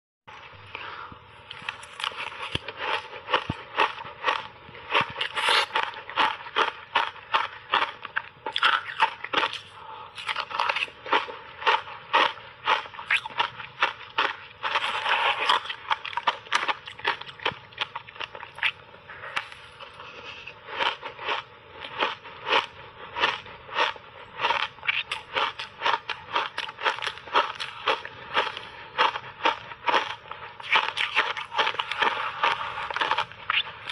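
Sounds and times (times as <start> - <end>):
chewing crunchy shaved ice: 0.3 - 33.9.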